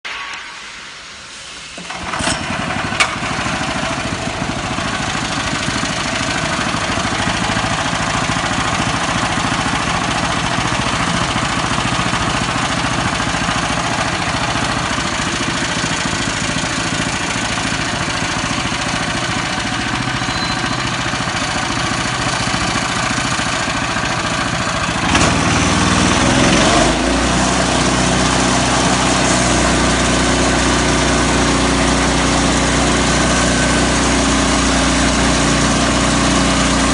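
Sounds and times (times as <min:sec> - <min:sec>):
band sawmill running: 0:00.0 - 0:36.9.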